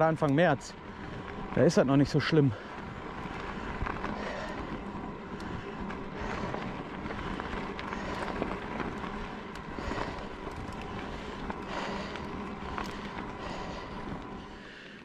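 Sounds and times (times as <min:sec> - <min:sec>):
tyres rolling on dirt track: 0:00.0 - 0:15.0
faint steady hum: 0:00.1 - 0:15.0.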